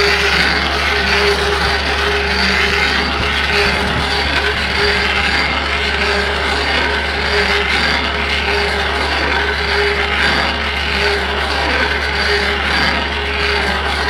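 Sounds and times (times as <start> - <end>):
diesel engine running: 0.0 - 14.0
stump drill grinding wood: 0.0 - 14.0.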